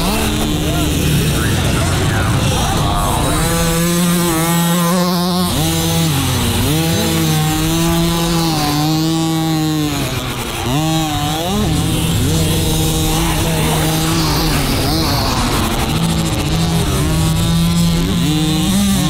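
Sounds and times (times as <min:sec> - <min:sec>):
minibike engine revving: 0:00.0 - 0:19.0.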